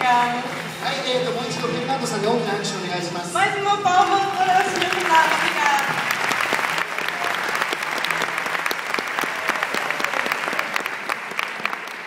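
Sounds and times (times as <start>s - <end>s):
audience applauding: 0.0s - 1.8s, 4.0s - 12.0s.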